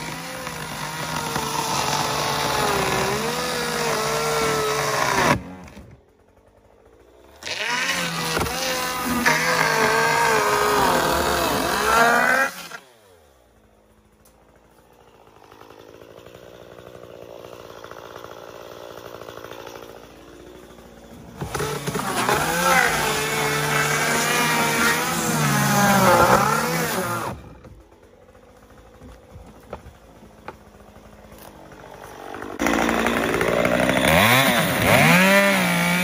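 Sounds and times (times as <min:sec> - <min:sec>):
chainsaw cutting at full throttle: 0:00.0 - 0:36.0.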